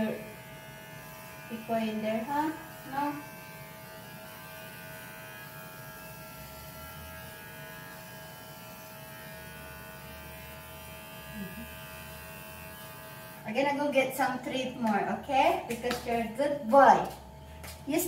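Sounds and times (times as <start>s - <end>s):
electric trimmer buzzing: 0.0s - 18.0s.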